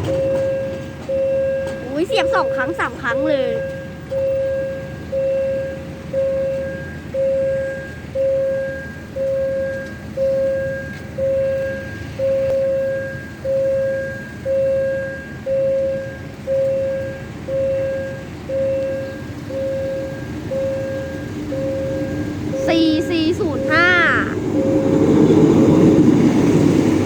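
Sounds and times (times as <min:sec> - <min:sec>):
level crossing warning bell: 0:00.0 - 0:27.0.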